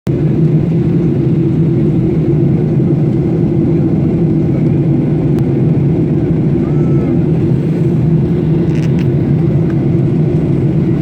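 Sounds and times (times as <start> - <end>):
airliner engine drone in cabin: 0.1 - 11.0.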